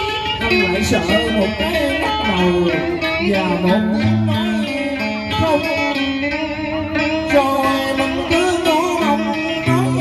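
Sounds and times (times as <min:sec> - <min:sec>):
guitar with sliding bending notes: 0:00.0 - 0:10.0.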